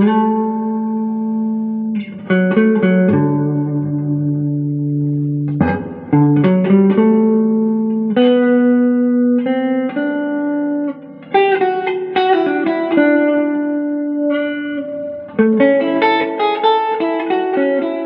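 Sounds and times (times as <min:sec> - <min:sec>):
electric guitar picked notes: 0:00.0 - 0:18.0.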